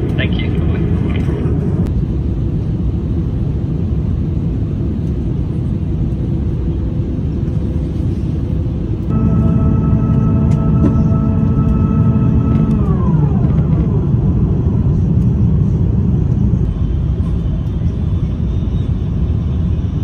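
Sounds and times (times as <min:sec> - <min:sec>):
airliner cabin roar: 0:00.0 - 0:20.0.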